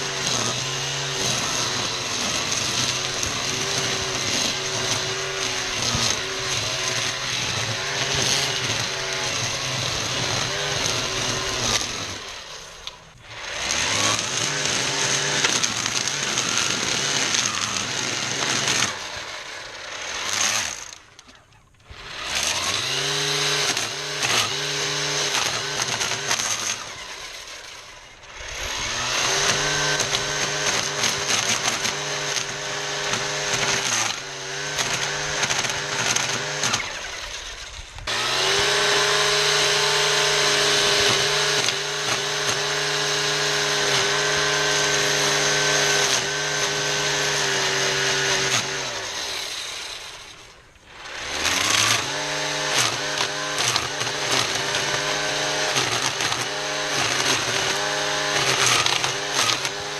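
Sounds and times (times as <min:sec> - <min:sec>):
string trimmer motor whining: 0:00.0 - 0:59.9
trimmer line cutting weeds: 0:00.0 - 0:59.9.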